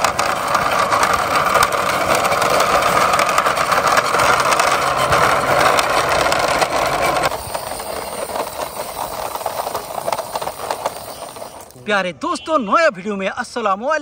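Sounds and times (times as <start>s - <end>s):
toy wheels rolling on concrete: 0.0s - 11.9s.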